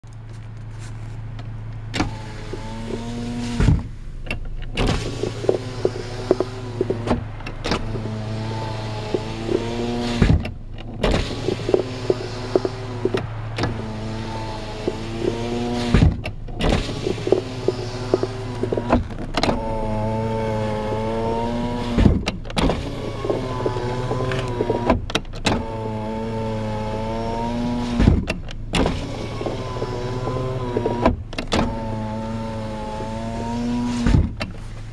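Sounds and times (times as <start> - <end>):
power window motor whining: 1.9 - 34.9.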